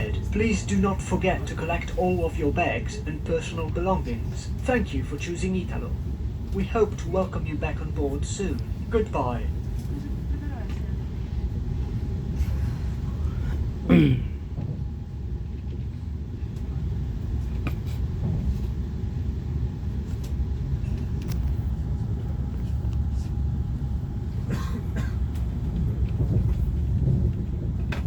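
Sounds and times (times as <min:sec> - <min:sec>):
train rumble inside passenger car: 0:00.0 - 0:28.0.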